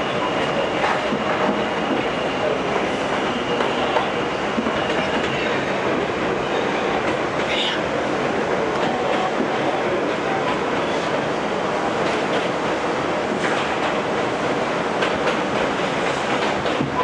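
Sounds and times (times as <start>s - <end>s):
subway car wheels rumbling on rail: 0.0s - 17.0s.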